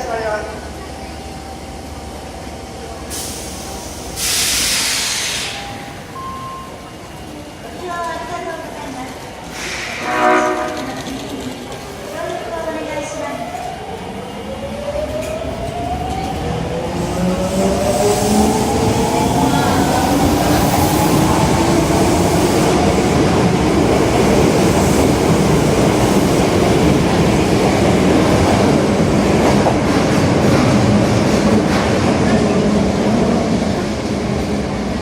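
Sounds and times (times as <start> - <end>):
train rumble and rail clatter: 0.0 - 35.0.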